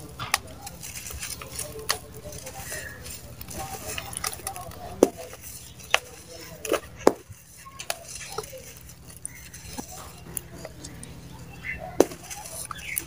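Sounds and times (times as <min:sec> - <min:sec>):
dirt sifting through fingers: 0:00.0 - 0:13.0
dry mud balls crunching: 0:00.0 - 0:13.0.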